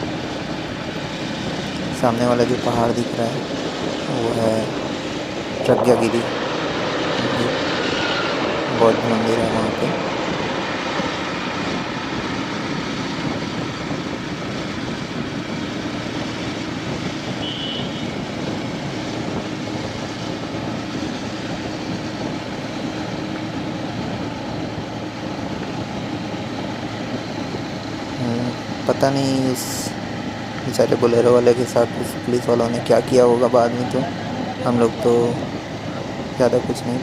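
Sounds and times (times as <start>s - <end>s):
motorcycle engine hum: 0.0s - 37.0s
wind noise: 0.0s - 37.0s.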